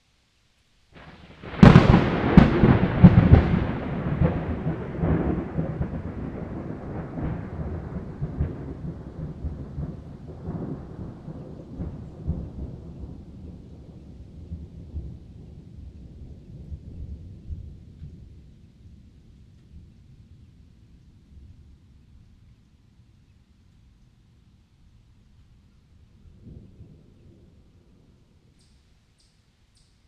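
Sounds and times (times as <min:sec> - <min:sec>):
thunderclap with long rumble: 0:01.0 - 0:28.6.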